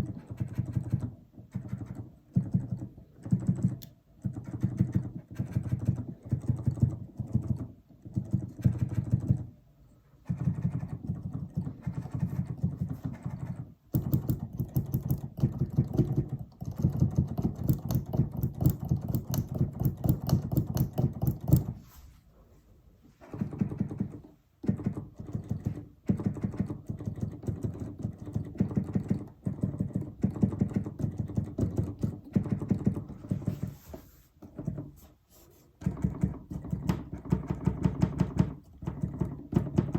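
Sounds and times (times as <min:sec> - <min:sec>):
keyboard keys clicking and knocking: 0:00.0 - 0:09.6, 0:10.2 - 0:21.8, 0:23.2 - 0:33.7, 0:34.4 - 0:35.1, 0:35.8 - 0:39.9.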